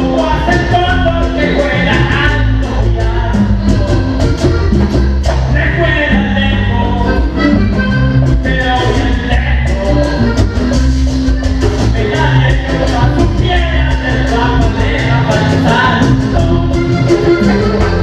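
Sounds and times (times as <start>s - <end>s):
accordion melody: 0.0s - 18.0s
fast percussion beat: 0.0s - 18.0s.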